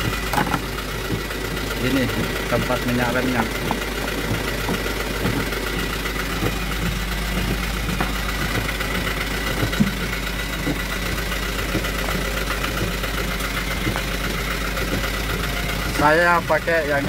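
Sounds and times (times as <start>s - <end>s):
light knocks in vehicle cab: 0.0s - 2.7s, 3.4s - 15.7s
diesel truck engine idling: 0.0s - 17.0s.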